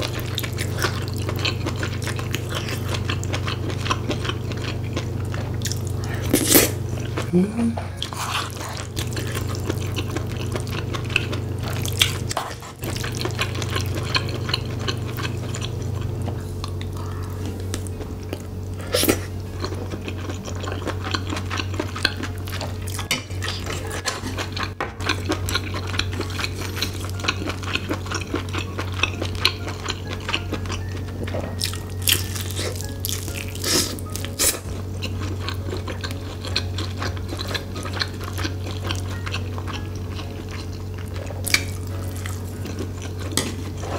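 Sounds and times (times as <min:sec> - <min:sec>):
wet chewing and smacking: 0:00.0 - 0:07.3, 0:08.0 - 0:43.9
steady low hum: 0:00.0 - 0:43.9.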